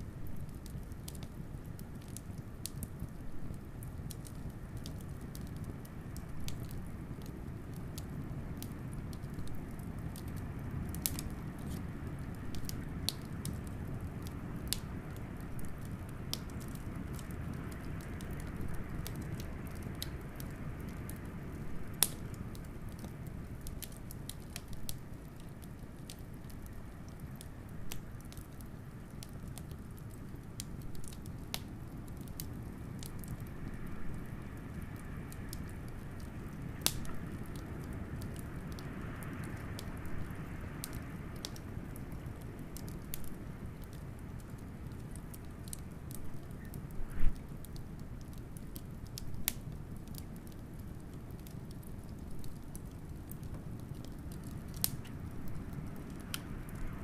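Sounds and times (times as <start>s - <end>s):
faint wind howl: 0.0s - 57.0s
wood fire crackling and popping: 0.0s - 57.0s.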